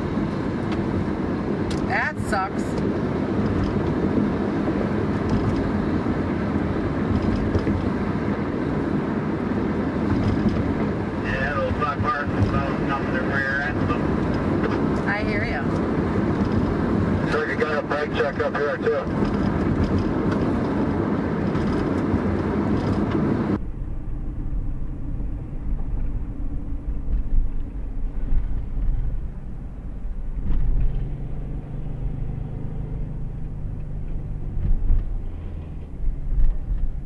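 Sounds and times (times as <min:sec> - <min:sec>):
car road noise: 0:00.0 - 0:37.0.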